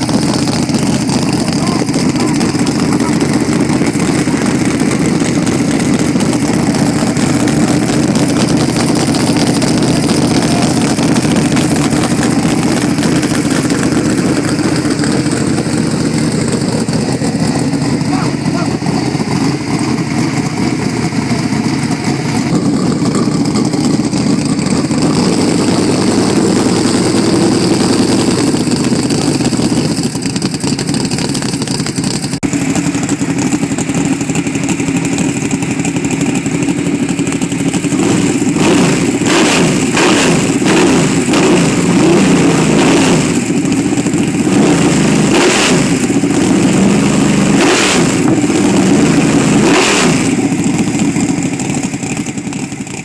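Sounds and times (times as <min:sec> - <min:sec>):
race car engine idling loudly: 0:00.0 - 0:53.0.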